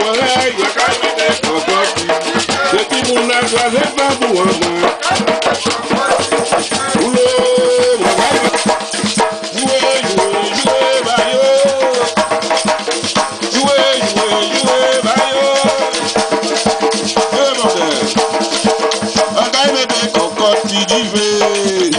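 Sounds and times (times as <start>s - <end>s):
hand drum rhythm: 0.0s - 21.9s
people singing: 0.0s - 21.9s
rattling shaker: 0.0s - 21.9s.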